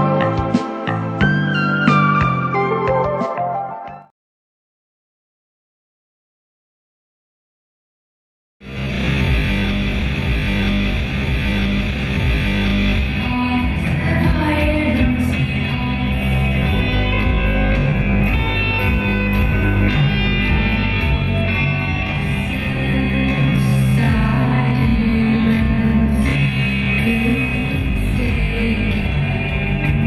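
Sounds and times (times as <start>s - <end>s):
rock music with guitar: 0.0s - 4.0s, 8.6s - 30.0s.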